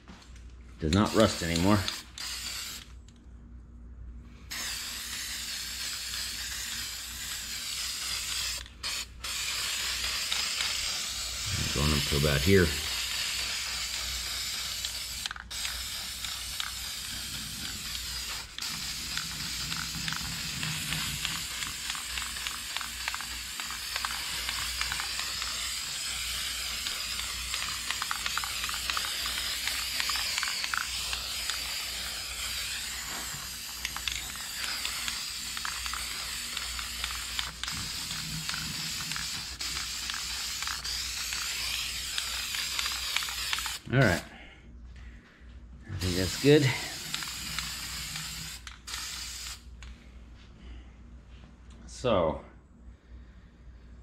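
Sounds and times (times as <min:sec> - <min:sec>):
aerosol spray hissing: 0:01.0 - 0:02.9, 0:04.5 - 0:44.2, 0:46.0 - 0:49.7.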